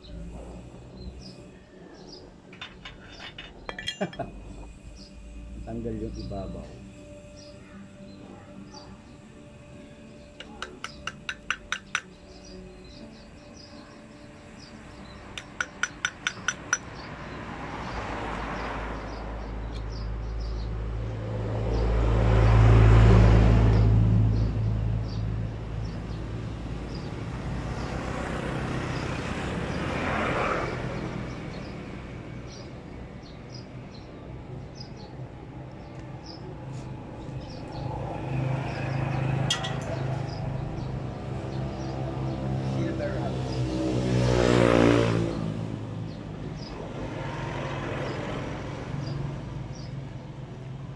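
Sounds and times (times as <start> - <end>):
vehicles passing: 0.0 - 50.9.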